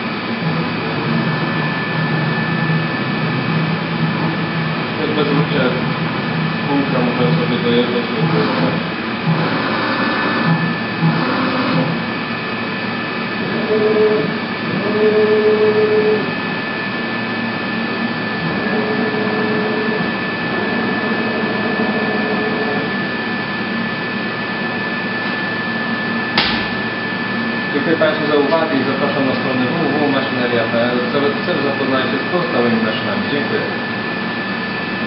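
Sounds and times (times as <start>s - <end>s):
lower feed drive whine: 0.0s - 35.0s
milling machine whine: 0.0s - 35.0s.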